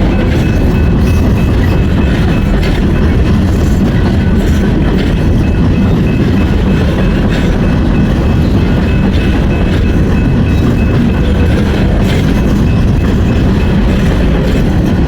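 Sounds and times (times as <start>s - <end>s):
freight train wheels rumbling: 0.0s - 15.0s
high ringing from train wheels: 0.0s - 15.0s.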